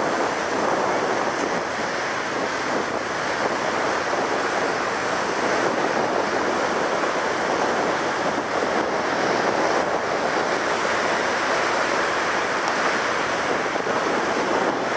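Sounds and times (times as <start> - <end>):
rushing water: 0.0 - 14.9
wind noise on microphone: 0.0 - 14.9.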